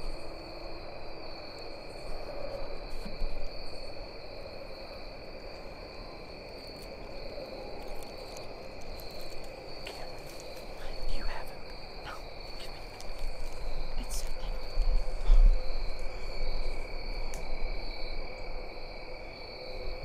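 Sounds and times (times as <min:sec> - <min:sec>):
crickets trilling: 0:00.0 - 0:20.0
low background noise: 0:00.0 - 0:20.0.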